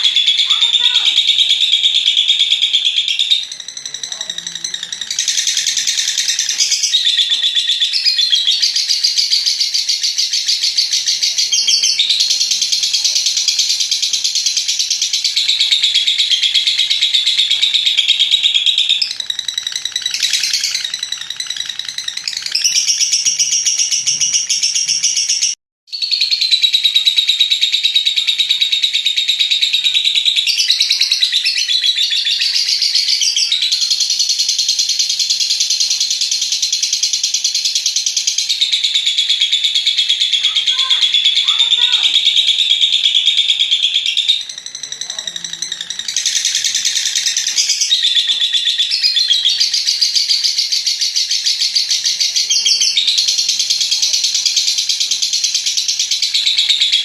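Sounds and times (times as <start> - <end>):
bird chattering trills: 0.0 - 57.0.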